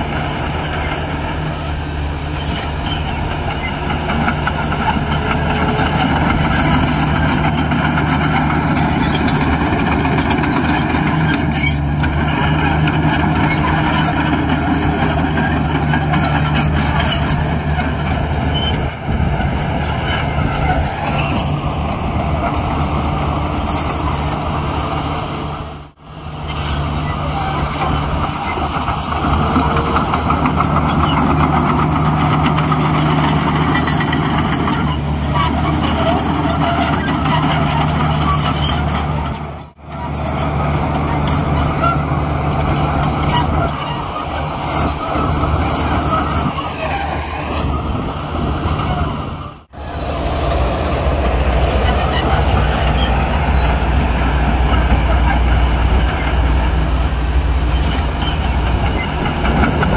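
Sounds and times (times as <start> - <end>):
heavy diesel machinery engine drone: 0.0 - 59.9.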